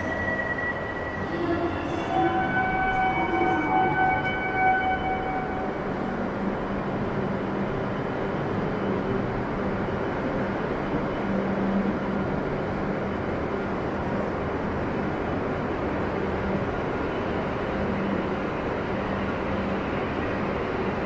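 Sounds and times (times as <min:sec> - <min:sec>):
station ambient hum and rushing: 0:00.0 - 0:21.0.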